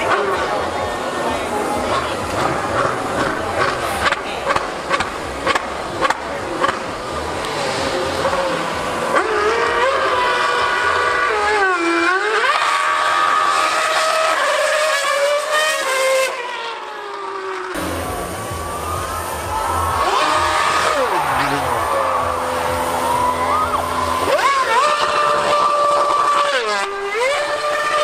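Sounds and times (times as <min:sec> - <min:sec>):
racing car engine screaming: 0:00.0 - 0:28.0.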